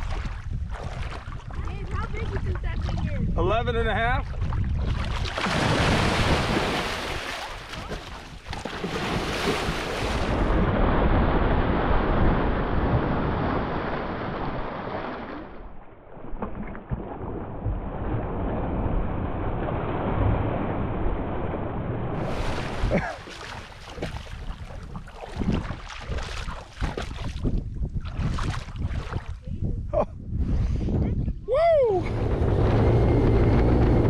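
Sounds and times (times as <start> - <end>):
wind buffeting microphone: 0.0 - 15.8, 17.0 - 34.0
water churning and splashing: 0.0 - 21.6, 22.2 - 29.5.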